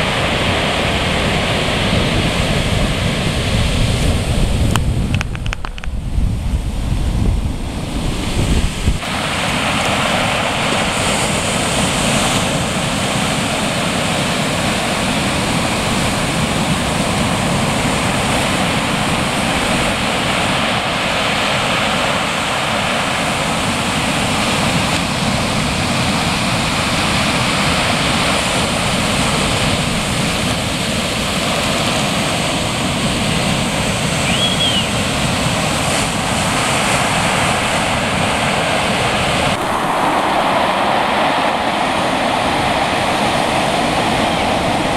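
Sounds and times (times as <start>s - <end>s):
ocean waves breaking: 0.0s - 44.9s
wind on microphone: 0.0s - 44.9s.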